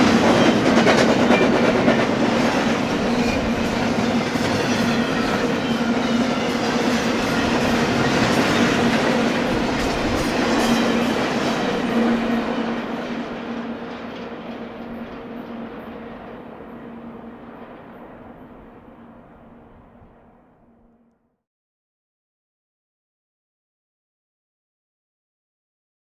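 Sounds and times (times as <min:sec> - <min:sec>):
freight train rumbling past: 0:00.0 - 0:20.9.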